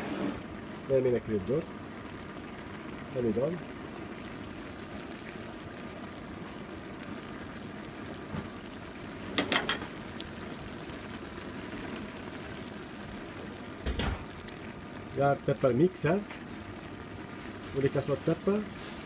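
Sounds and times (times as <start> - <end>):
food simmering and sizzling in a pan: 0.0 - 19.0.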